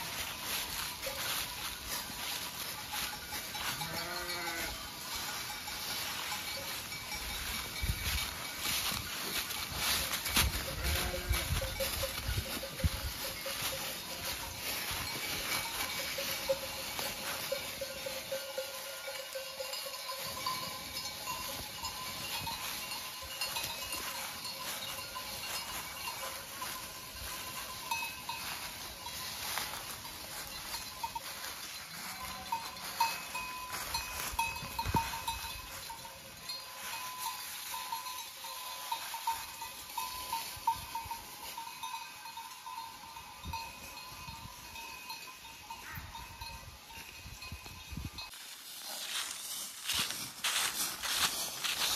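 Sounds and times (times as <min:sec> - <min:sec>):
animals rustling dry leaves: 0:00.0 - 0:51.9
goat bells clinking: 0:00.0 - 0:51.9.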